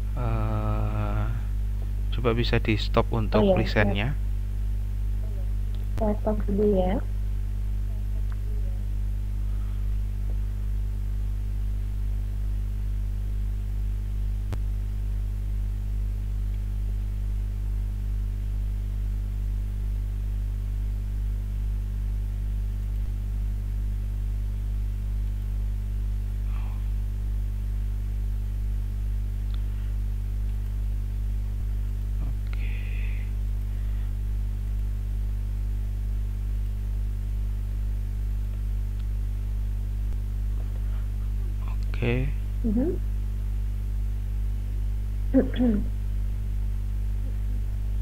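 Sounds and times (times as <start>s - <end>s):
electrical mains hum: 0.0s - 48.0s.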